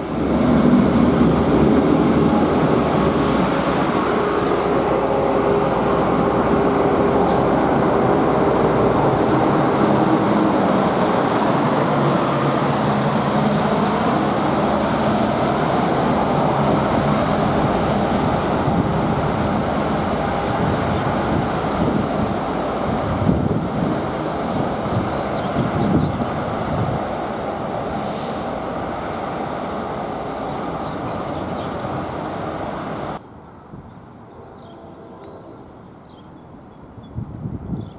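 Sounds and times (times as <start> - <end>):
train wheels rumbling on rails: 0.0 - 33.2.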